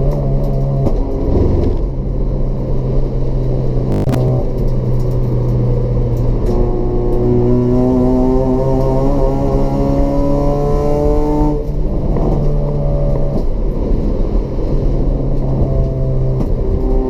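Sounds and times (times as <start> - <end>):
car engine running under load: 0.0 - 17.0.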